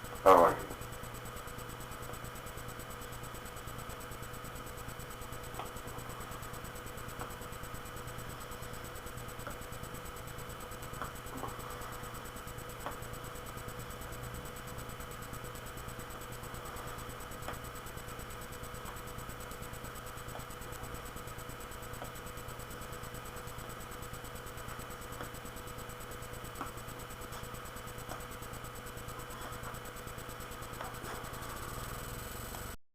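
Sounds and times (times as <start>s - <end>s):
electrical hum: 0.0s - 32.8s.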